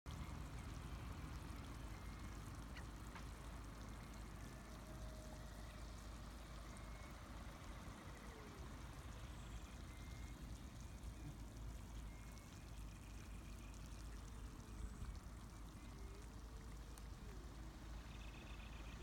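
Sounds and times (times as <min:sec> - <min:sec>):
hot spring bubbling: 0:00.1 - 0:19.0.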